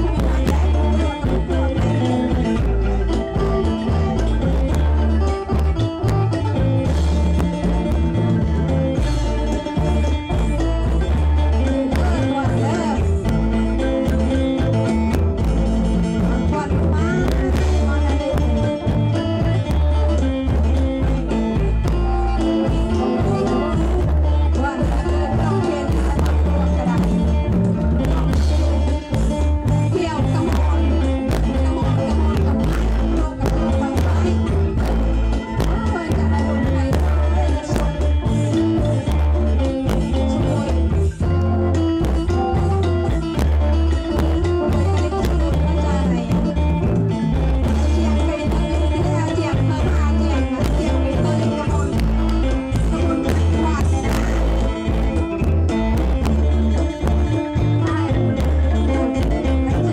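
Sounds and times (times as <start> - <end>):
mouth organs playing chords: 0.0 - 59.9
steady drum beat: 0.0 - 59.9.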